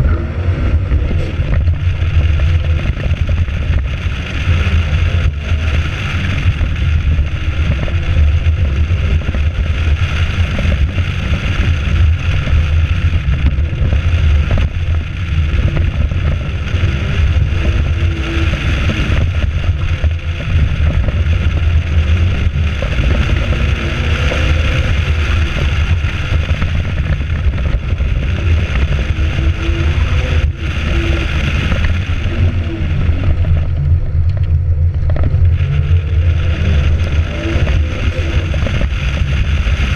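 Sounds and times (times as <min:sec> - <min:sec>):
car engine accelerating: 0:00.0 - 0:39.9
wind buffeting microphone: 0:00.0 - 0:39.9.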